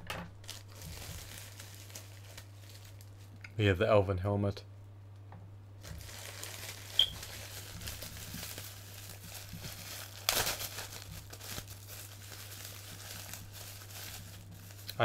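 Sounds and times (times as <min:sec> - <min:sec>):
plastic packaging crinkling: 0:00.4 - 0:03.4, 0:05.8 - 0:15.0.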